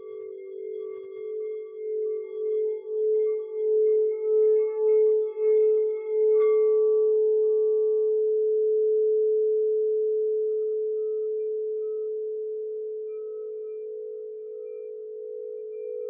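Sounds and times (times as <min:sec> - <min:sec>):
singing bowl ringing low tone: 0:00.0 - 0:16.0.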